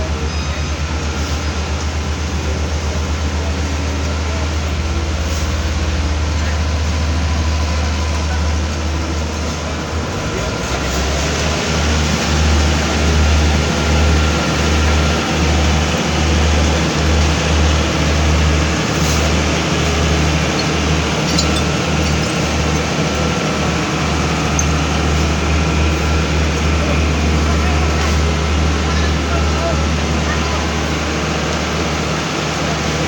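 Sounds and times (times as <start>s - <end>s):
paving machinery engines rumbling: 0.0s - 33.0s.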